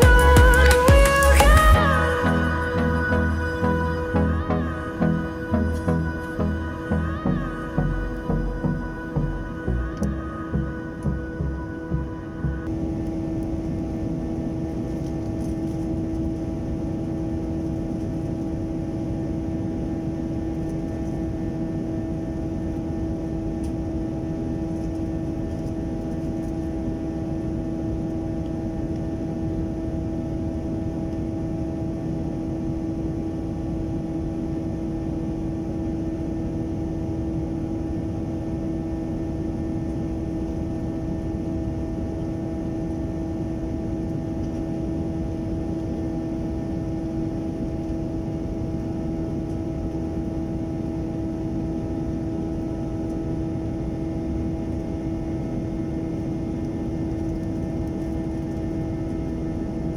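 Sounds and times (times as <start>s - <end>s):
constant hum tone: 0.0s - 59.9s
jet engine and airflow drone: 0.0s - 59.9s.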